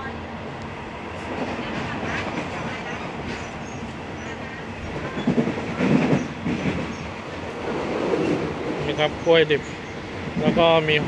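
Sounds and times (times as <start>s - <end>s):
train coach rumbling on rails: 0.0s - 11.0s.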